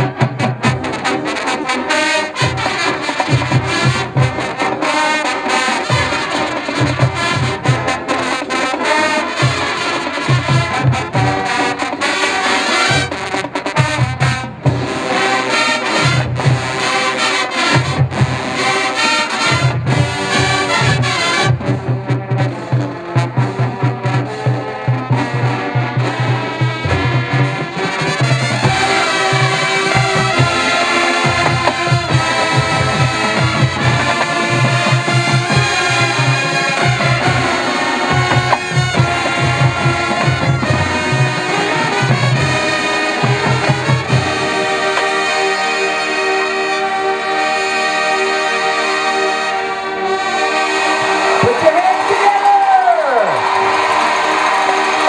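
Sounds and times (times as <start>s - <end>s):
drumline drumming: 0.0s - 45.7s, 50.9s - 55.0s
marching band brass: 0.0s - 55.0s.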